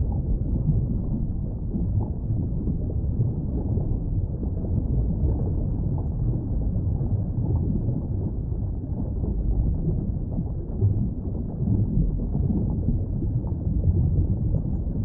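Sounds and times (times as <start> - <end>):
muffled low rumbling: 0.0 - 15.0.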